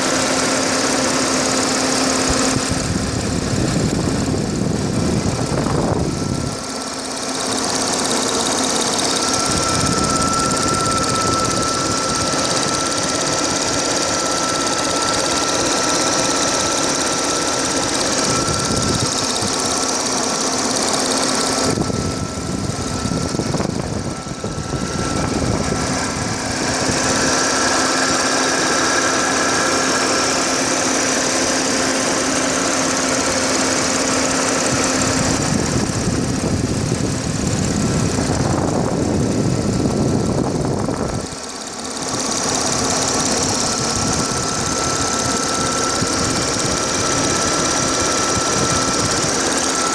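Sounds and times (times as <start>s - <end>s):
car engine idling: 0.0s - 49.9s
engine clicking: 0.0s - 49.9s
thin steady whine: 0.0s - 49.9s.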